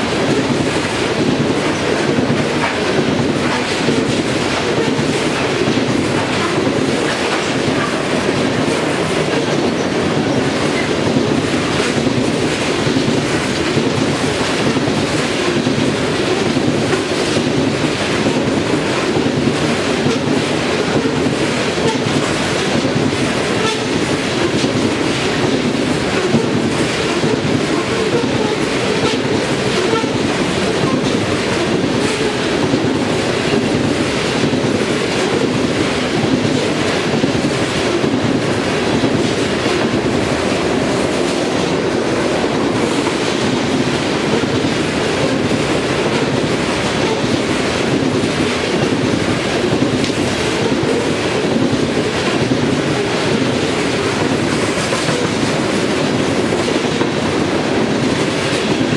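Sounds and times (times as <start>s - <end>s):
train rolling rumble: 0.0s - 58.9s
train wheels clicking over rail joints: 0.0s - 58.9s.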